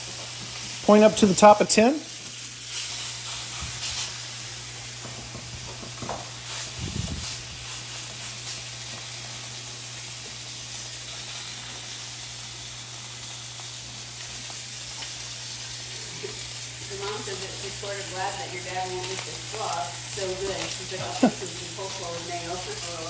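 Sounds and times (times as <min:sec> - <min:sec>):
green beans frying in oil: 0:00.0 - 0:23.0
pork chops sizzling on grill pan: 0:00.0 - 0:23.0.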